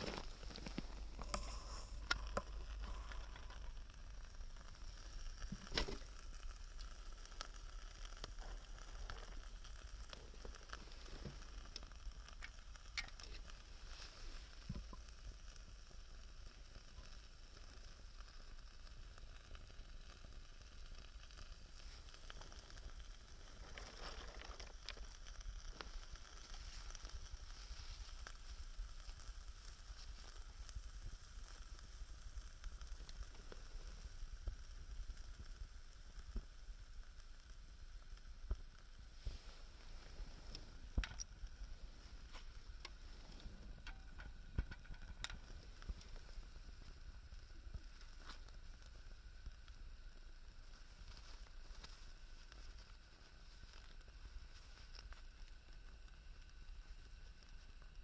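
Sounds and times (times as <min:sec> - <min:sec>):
fire popping: 0:00.0 - 0:58.0
wood fire hissing: 0:00.0 - 0:58.0.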